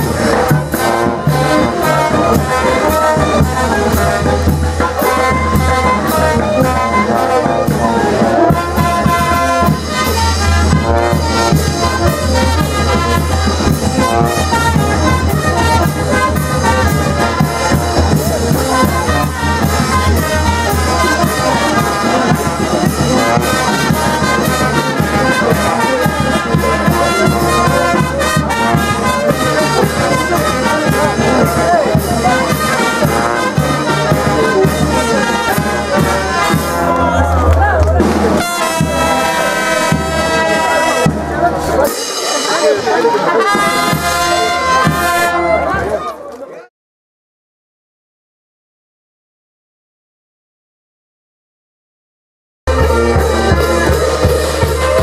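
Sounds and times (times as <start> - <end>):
bass drum beat: 0.0 - 41.8, 52.7 - 55.0
brass band playing dance music: 0.0 - 46.2, 52.7 - 55.0.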